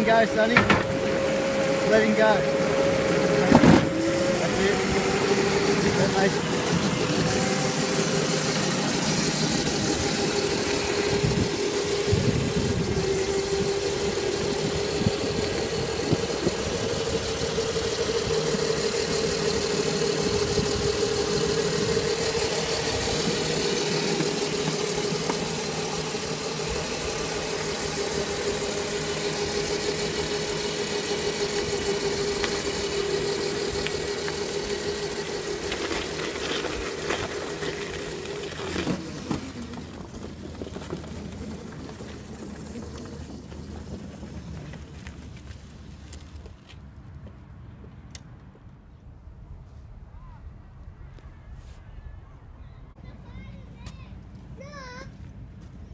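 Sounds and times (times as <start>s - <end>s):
electric motor high whine: 0.0s - 46.2s.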